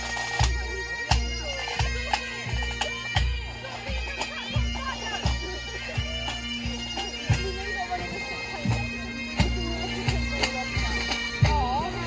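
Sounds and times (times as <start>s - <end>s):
bagpipes playing: 0.0s - 12.0s
drum marching beat: 0.0s - 12.0s.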